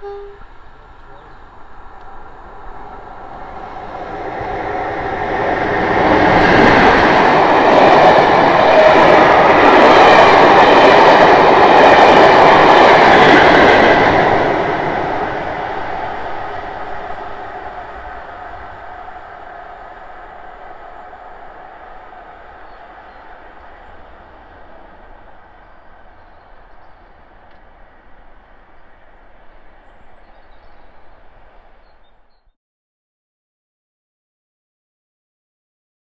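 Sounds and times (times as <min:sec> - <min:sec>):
diesel locomotive engine: 0:00.0 - 0:32.3
train wheels on rail: 0:00.0 - 0:32.3.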